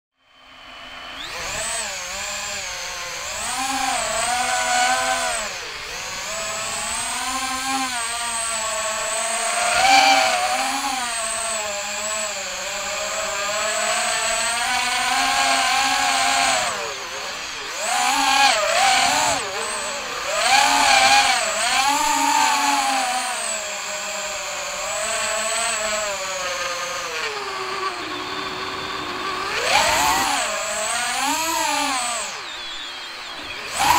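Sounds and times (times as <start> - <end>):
quadcopter motors whining: 0.2 - 33.9.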